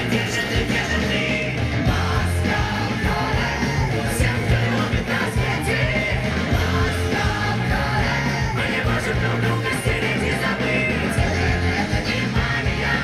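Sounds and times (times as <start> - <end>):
amplified live concert music: 0.0 - 13.0
heavy steady bass: 0.0 - 13.0.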